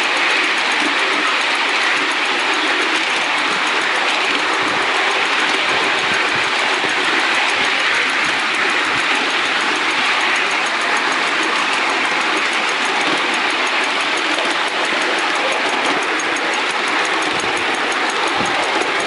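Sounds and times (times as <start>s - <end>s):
fast faint ticking: 0.0s - 19.0s
steam locomotive running: 0.0s - 19.0s.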